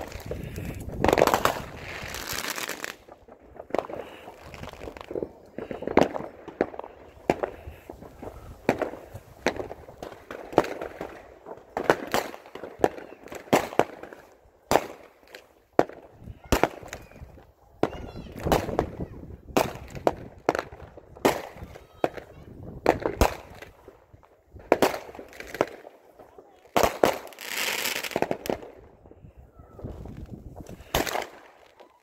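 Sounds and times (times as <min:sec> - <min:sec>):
fireworks bangs with echo: 0:00.0 - 0:28.9, 0:29.6 - 0:32.0.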